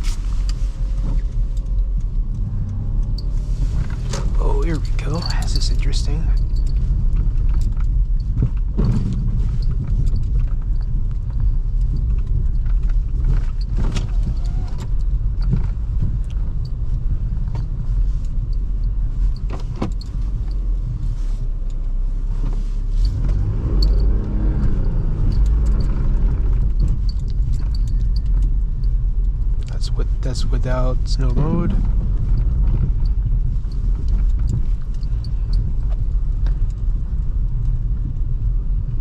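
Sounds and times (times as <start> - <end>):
car engine and tyres rumbling: 0.0 - 39.0.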